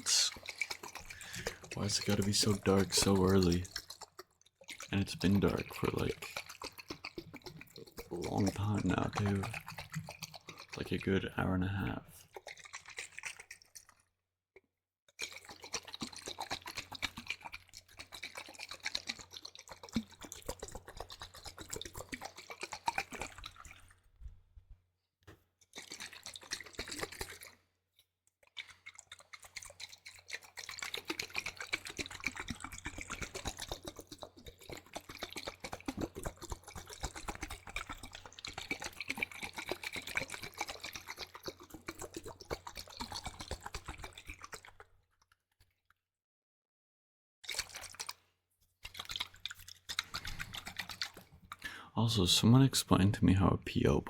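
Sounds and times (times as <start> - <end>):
liquid crackling and dripping: 0.0 - 46.0, 47.4 - 52.7.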